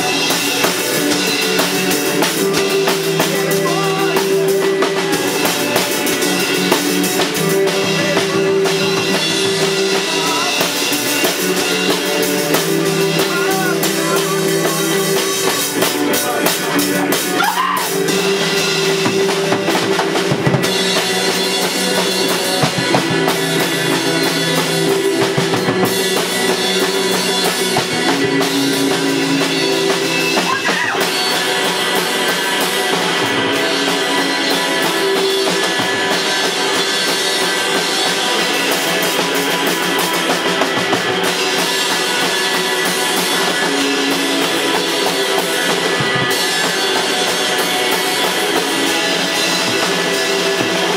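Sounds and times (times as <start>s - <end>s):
instrumental rock band: 0.0s - 50.9s.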